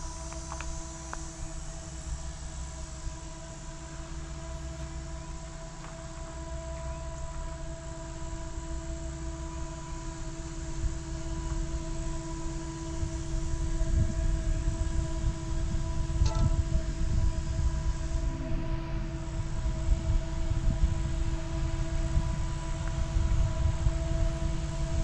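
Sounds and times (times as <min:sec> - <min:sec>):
locomotive hum: 0:00.0 - 0:25.0.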